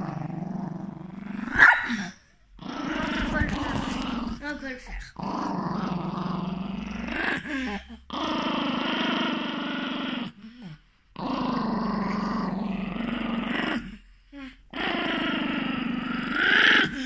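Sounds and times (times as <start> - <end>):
small dog growling: 0.0 - 17.0.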